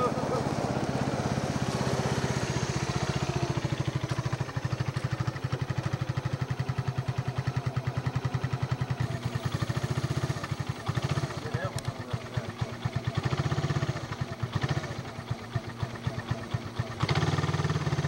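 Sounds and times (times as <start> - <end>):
small atv engine chugging: 0.0 - 18.0.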